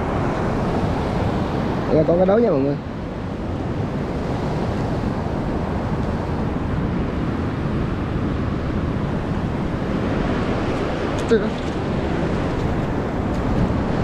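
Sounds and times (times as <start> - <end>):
surf washing onto beach: 0.0 - 14.0
wind on microphone: 0.0 - 14.0.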